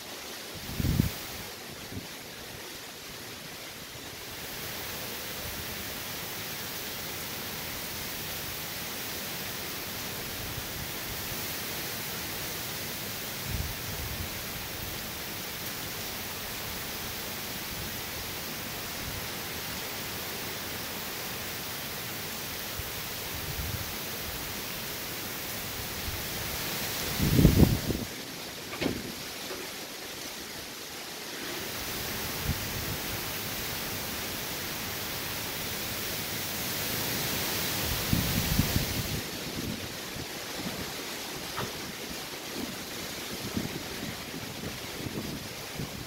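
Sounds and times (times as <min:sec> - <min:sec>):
heavy wind-driven rain: 0:00.0 - 0:46.0.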